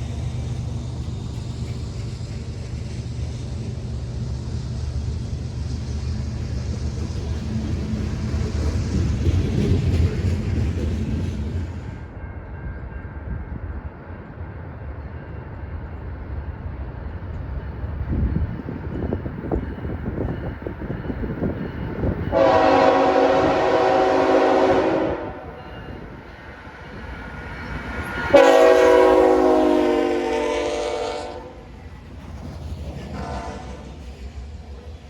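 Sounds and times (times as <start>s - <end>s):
train rumbling by: 0.0s - 35.0s.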